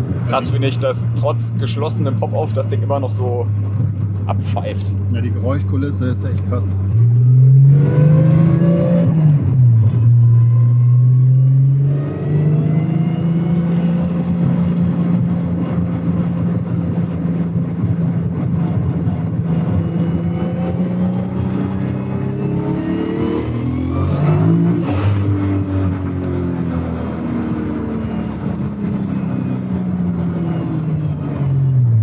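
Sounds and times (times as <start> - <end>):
car engine revving in cabin: 0.0 - 32.0.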